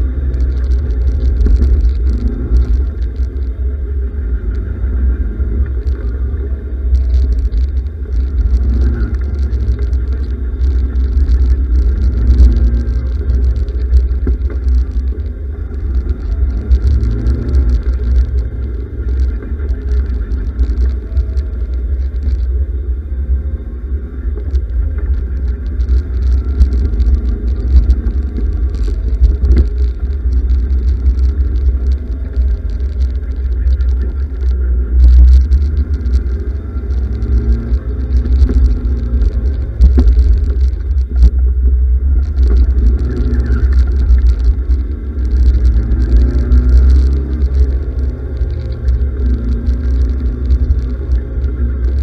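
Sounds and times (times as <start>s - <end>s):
car engine revving: 0.0s - 52.0s
heavy low rumble: 0.0s - 52.0s.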